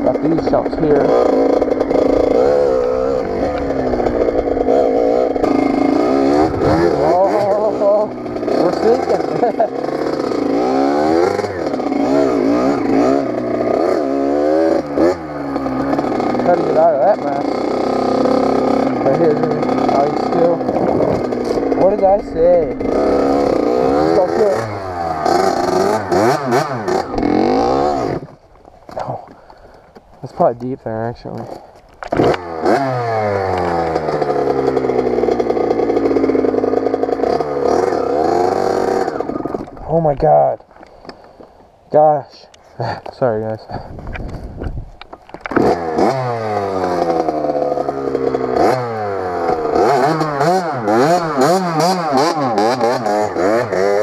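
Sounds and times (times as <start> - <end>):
two-stroke motorcycle engine revving: 0.0 - 29.3, 30.3 - 41.3, 45.3 - 54.0.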